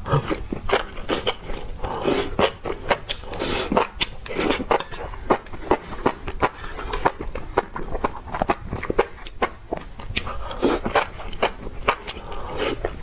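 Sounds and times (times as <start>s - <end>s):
wet chewing mouth clicks: 0.2s - 13.0s.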